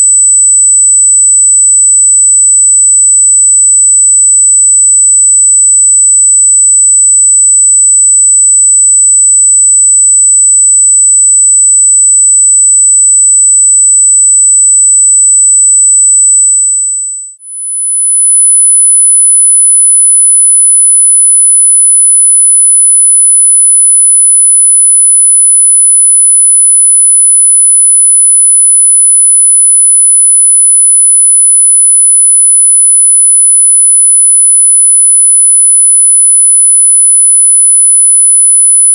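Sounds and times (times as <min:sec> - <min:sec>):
high sine-wave test tone: 0:00.0 - 0:38.9
higher sine-wave test tone: 0:00.0 - 0:38.9.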